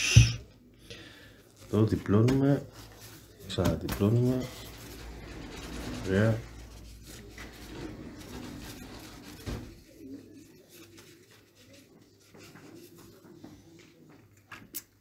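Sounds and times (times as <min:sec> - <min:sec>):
paper towel rustling: 0:01.5 - 0:13.8.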